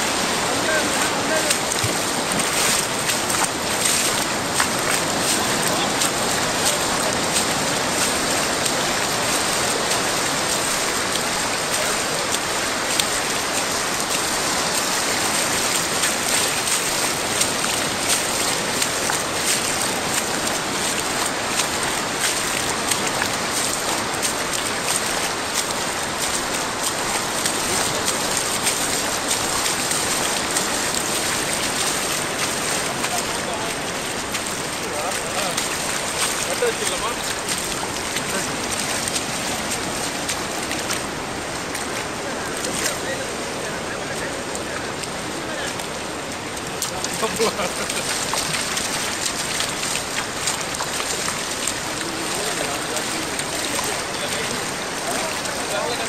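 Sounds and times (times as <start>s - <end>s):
surf washing over sand: 0.0s - 56.0s
water crackling: 0.0s - 56.0s.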